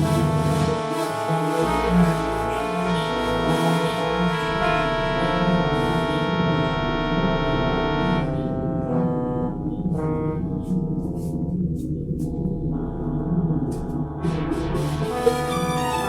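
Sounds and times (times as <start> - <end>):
music with sustained chords: 0.0 - 16.0.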